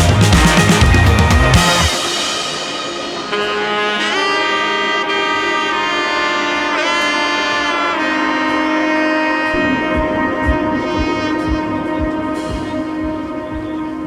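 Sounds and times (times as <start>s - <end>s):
instrumental music with held notes: 0.0s - 14.0s.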